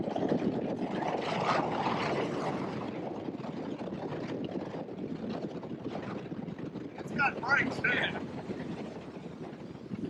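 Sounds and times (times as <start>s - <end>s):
boat motor running fast: 0.0s - 10.0s.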